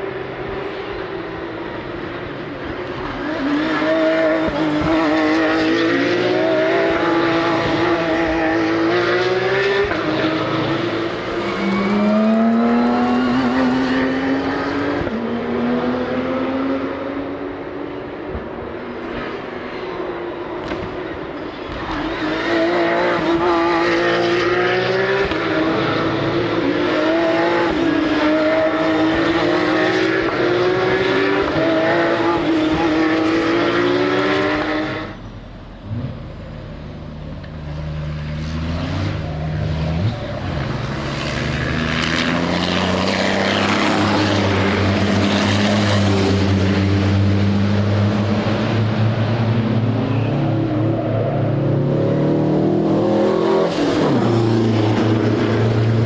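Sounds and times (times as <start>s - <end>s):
deeper racing engine accelerating: 0.0s - 56.0s
racing engine upshifting: 0.2s - 56.0s.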